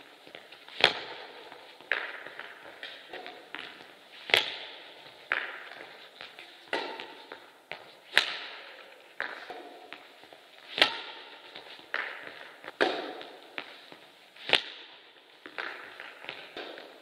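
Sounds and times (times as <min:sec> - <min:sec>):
soft racket taps: 0:00.3 - 0:17.0
badminton racket hitting shuttlecock: 0:00.4 - 0:17.0.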